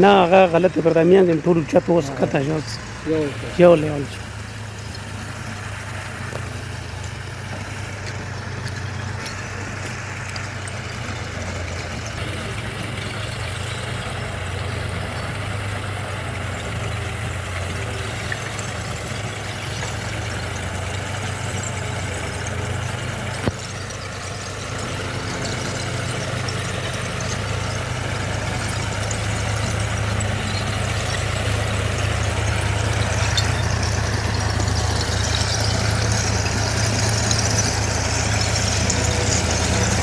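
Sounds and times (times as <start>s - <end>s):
tractor diesel engine idling: 0.0s - 40.0s.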